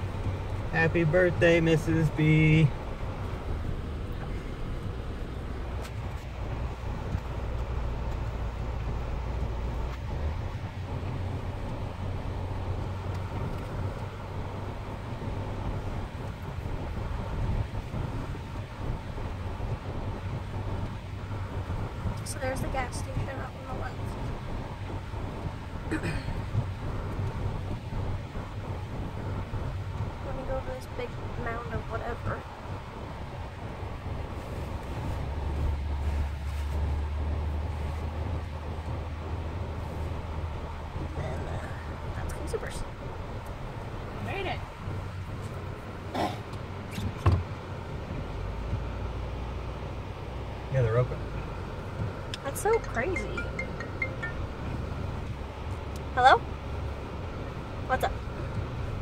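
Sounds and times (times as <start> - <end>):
engine and drivetrain drone: 0.0 - 59.0
road noise: 0.0 - 59.0.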